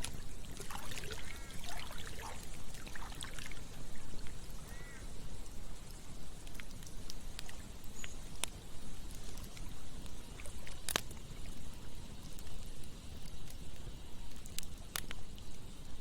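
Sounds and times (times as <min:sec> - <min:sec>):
campfire crackling and popping: 0:00.0 - 0:16.0
running water: 0:00.0 - 0:16.0.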